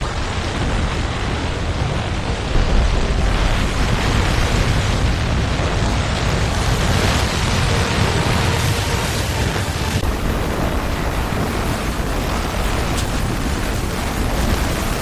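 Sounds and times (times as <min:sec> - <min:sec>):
rushing floodwater roar: 0:00.0 - 0:15.0.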